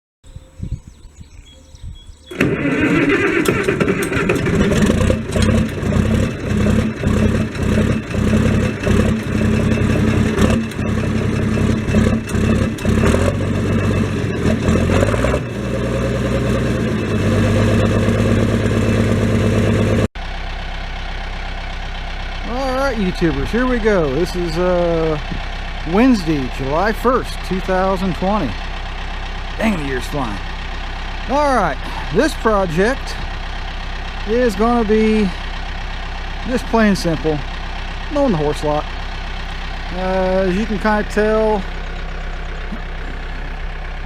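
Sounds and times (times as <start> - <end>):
tractor engine chugging: 2.0 - 44.0.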